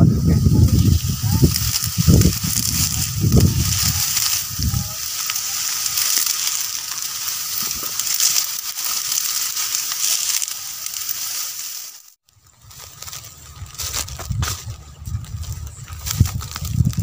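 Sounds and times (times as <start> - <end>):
dry grass rustling and crackling: 0.0 - 17.0.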